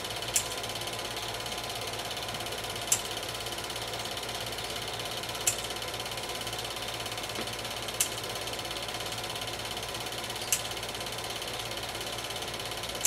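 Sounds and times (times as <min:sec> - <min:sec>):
film projector whirring and clattering: 0:00.0 - 0:13.0.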